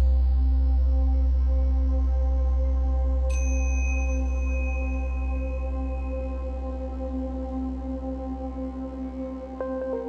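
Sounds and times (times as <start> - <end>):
slow ambient music with drone: 0.0 - 10.0.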